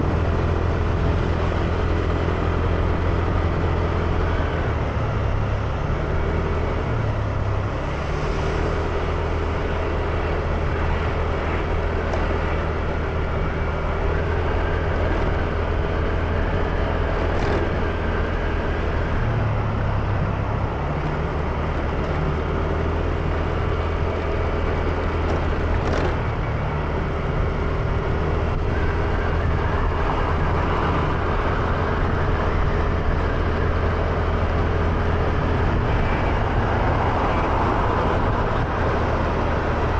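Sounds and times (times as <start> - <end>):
road and wind noise: 0.0 - 39.9
scooter engine drone: 0.0 - 39.9
traffic: 0.0 - 39.9.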